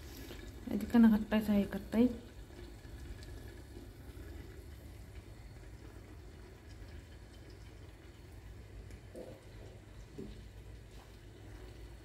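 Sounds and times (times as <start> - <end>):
liquid simmering in a pan: 0.0 - 12.0.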